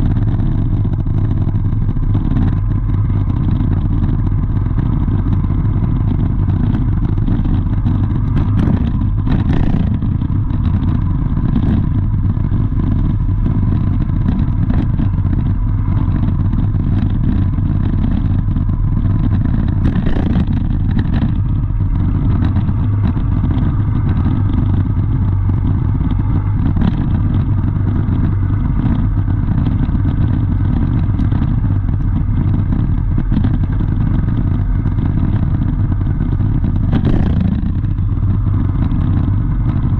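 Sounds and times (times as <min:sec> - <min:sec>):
light clatter: 0:00.0 - 0:39.9
vehicle engine rumble: 0:00.0 - 0:39.9.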